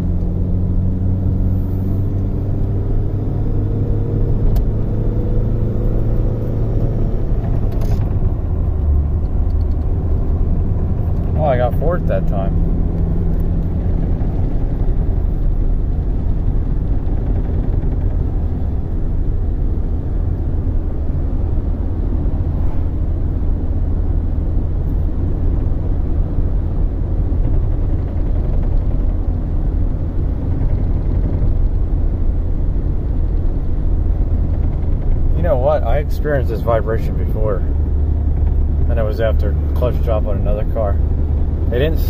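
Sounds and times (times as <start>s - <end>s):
car engine pulling steadily: 0.0s - 42.0s
road noise drone: 0.0s - 42.0s.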